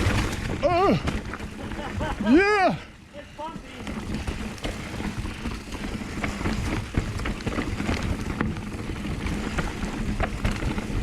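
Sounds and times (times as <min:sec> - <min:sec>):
bike knocking and rattling: 0:00.0 - 0:11.0
bike tyres rumbling over rock: 0:00.0 - 0:11.0.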